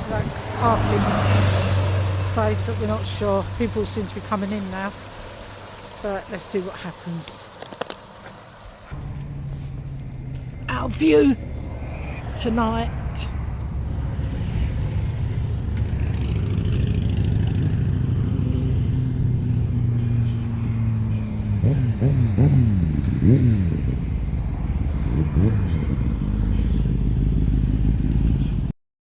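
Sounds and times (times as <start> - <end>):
traffic passing: 0.0 - 28.7
vehicle accelerating hard: 0.0 - 28.7.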